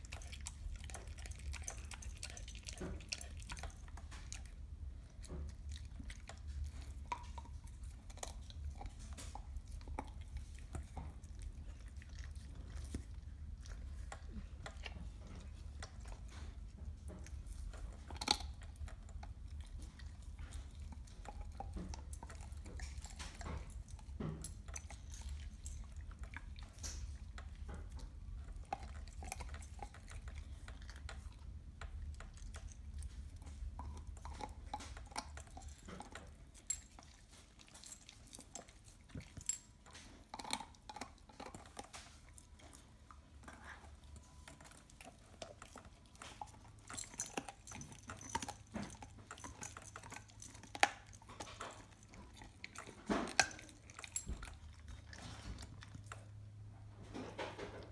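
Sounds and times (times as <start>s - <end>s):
dog gnawing a bone: 0.0s - 57.9s.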